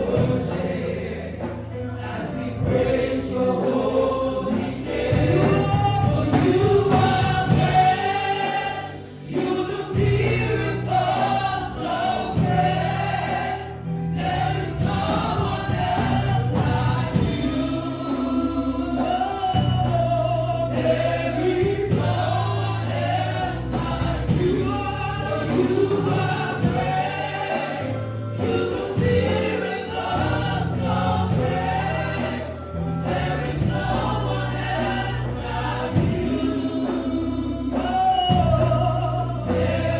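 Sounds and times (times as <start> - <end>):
choir singing gospel song: 0.0 - 39.9
sustained low bass notes: 0.0 - 39.9.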